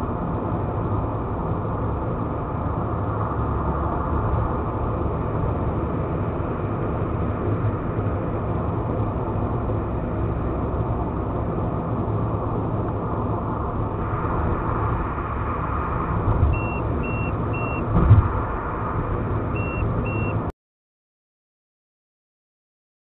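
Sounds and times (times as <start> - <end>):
car road and engine noise: 0.0 - 20.5.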